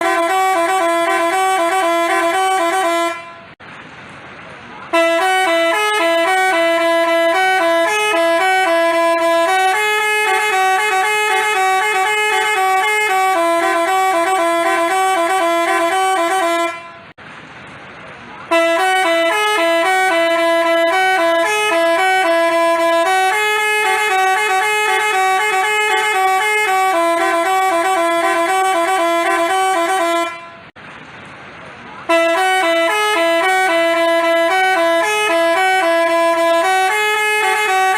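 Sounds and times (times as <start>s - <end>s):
multi-tone bus horn melody: 0.0s - 3.6s, 4.9s - 17.2s, 18.4s - 30.8s, 32.0s - 37.9s.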